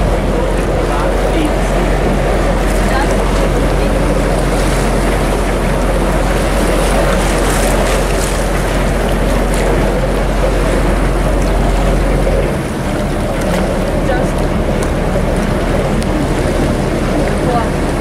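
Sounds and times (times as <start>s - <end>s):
boat engine drone: 0.0s - 18.0s
wind and water rushing: 0.0s - 18.0s.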